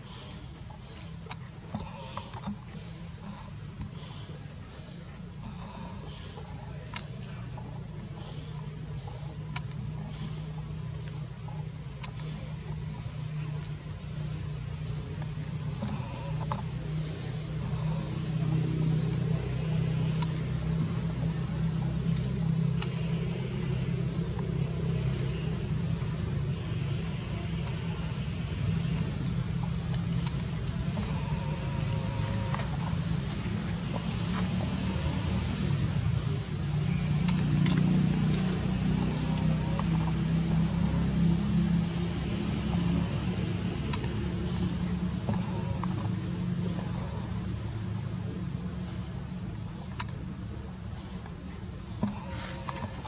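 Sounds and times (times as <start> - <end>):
low motor hum: 0.0 - 53.0.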